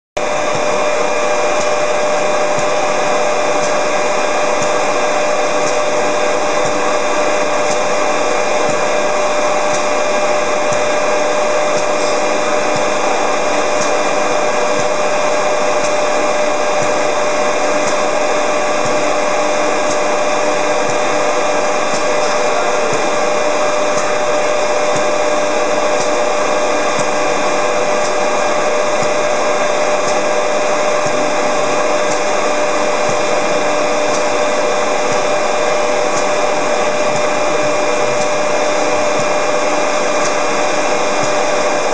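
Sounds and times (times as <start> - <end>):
milling spindle whining: 0.2 - 41.9.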